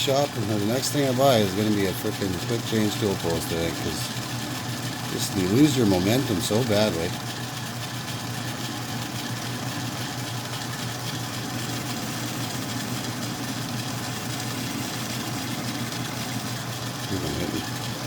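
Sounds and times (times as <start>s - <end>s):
metal lathe humming: 0.0s - 18.0s.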